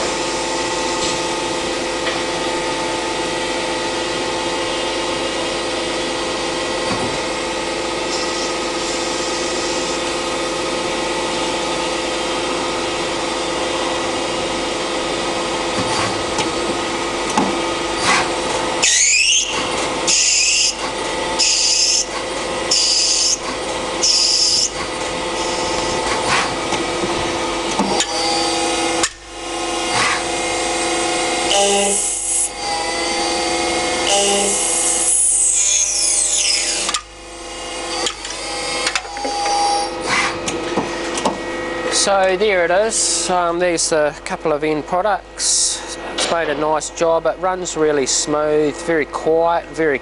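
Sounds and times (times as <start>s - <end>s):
rising whine: 0.0s - 44.0s
lathe mechanical hum: 0.0s - 50.0s.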